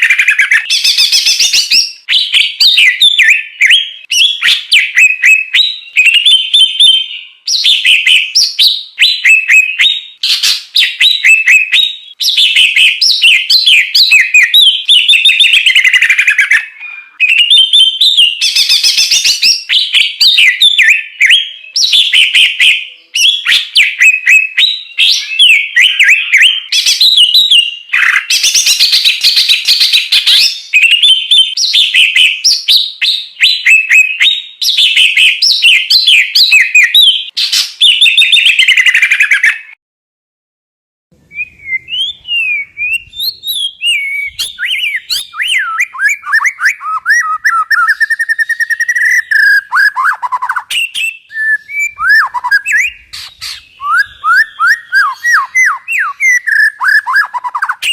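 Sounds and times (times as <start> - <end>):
songbird singing: 0.0 - 39.8, 41.2 - 57.9.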